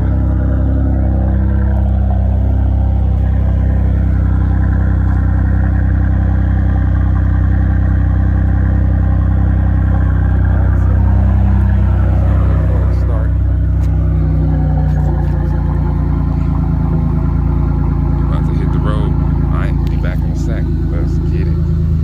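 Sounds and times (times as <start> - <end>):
car engine deep exhaust: 0.0 - 22.0.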